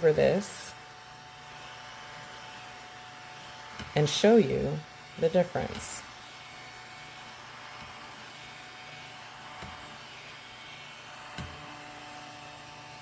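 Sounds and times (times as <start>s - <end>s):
mini vacuum cleaner whirring: 0.0s - 13.0s.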